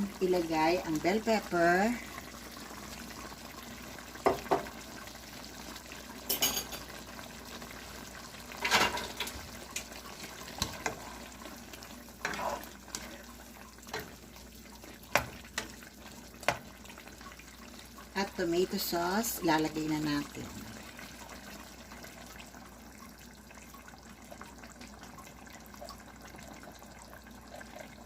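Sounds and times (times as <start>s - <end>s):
meat sizzling in a pan: 0.0s - 28.0s.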